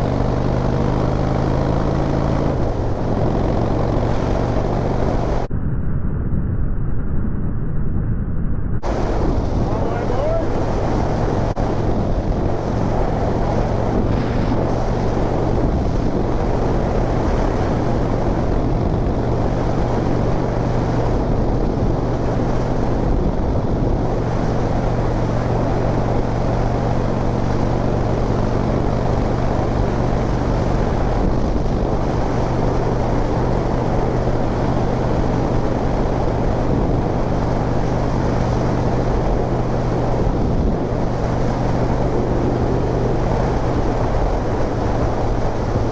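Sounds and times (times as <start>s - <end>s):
motorcycle engine running: 0.0s - 5.5s, 8.8s - 45.9s
wind noise on microphone: 0.0s - 45.9s.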